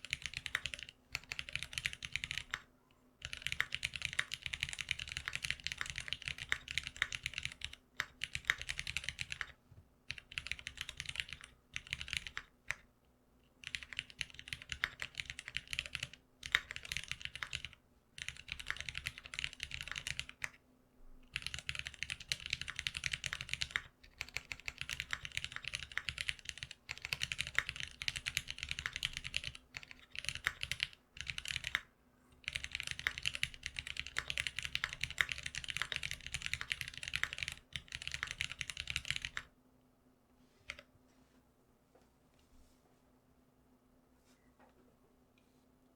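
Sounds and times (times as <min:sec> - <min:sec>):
mechanical keyboard typing: 0:00.0 - 0:12.8, 0:13.6 - 0:20.6, 0:21.3 - 0:39.5.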